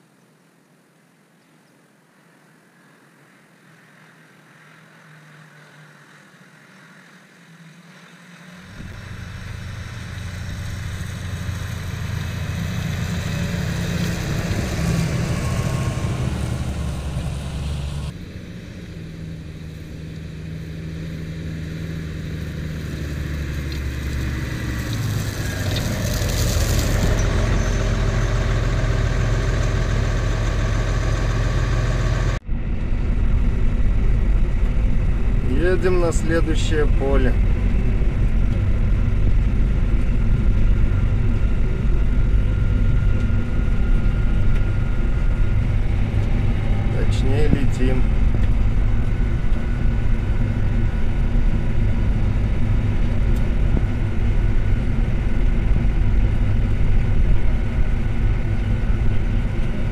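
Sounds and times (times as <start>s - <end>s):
tractor engine working: 4.7s - 59.9s.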